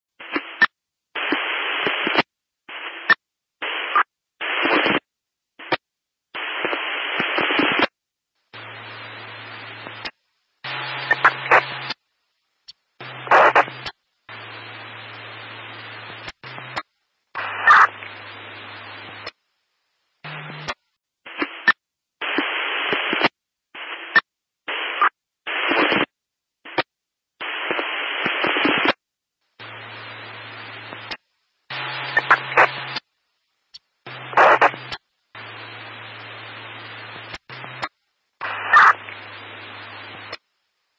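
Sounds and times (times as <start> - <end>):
radio static bursts: 0.2 - 5.8, 6.4 - 12.0, 12.7 - 19.4, 20.2 - 29.0, 29.6 - 33.1, 33.7 - 40.4.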